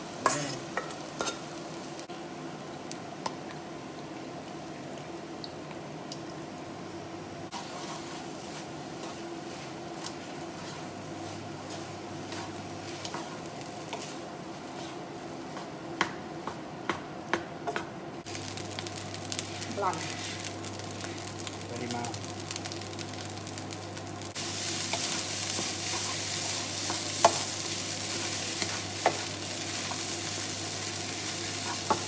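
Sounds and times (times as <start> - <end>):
rice sizzling in a wok: 0.0 - 4.7, 6.4 - 16.7, 18.2 - 32.0.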